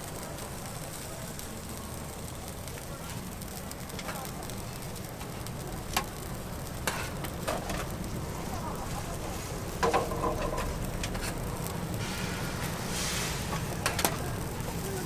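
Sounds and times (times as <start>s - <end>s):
batter sizzling on hot mold: 0.0s - 15.0s.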